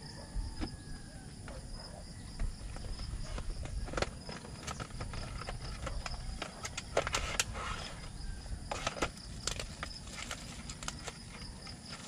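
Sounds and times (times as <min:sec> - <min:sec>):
faint high insect-like tone: 0:00.0 - 0:12.0.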